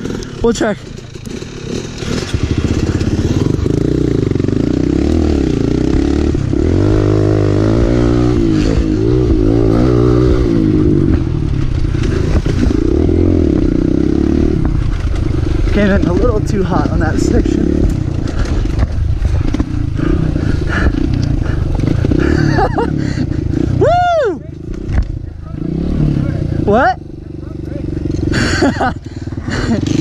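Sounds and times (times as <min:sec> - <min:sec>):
dirt bike engine revving: 0:00.0 - 0:24.0, 0:24.6 - 0:30.0.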